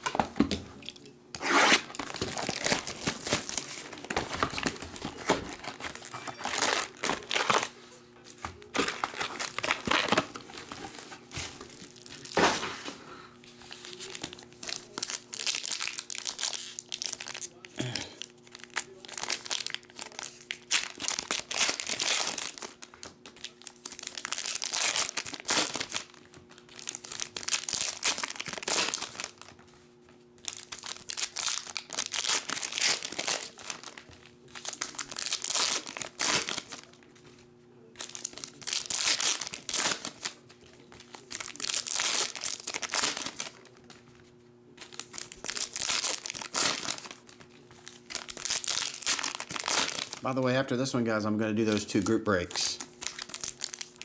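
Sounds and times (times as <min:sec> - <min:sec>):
foil wrappers crinkling and tearing: 0:00.8 - 0:29.6, 0:30.4 - 0:37.2, 0:37.8 - 0:44.0, 0:44.8 - 0:54.0.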